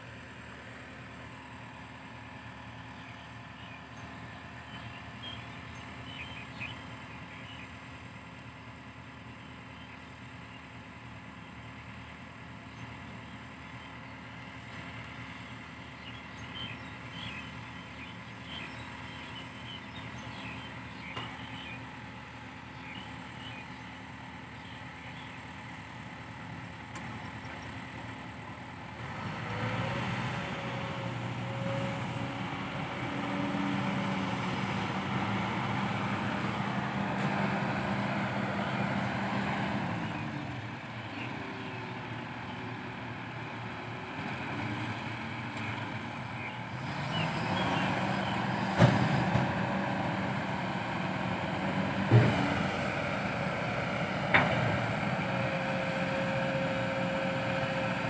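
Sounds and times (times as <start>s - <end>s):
excavator diesel engine working: 0.0s - 58.0s.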